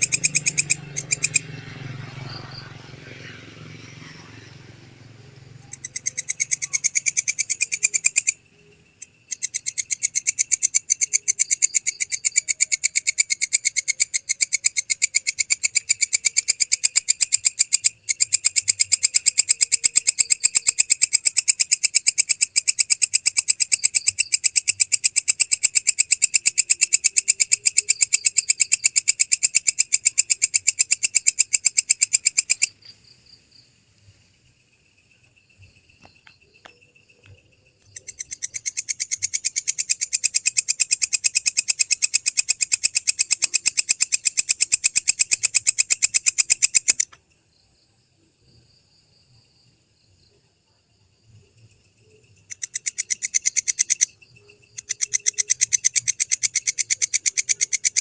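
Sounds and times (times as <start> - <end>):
katydid chirping pulses: 0.0 - 47.2, 51.4 - 58.0.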